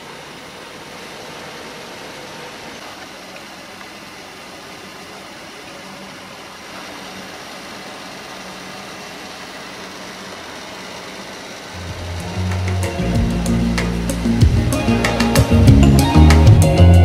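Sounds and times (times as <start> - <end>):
heater fan blowing air: 0.0 - 17.0.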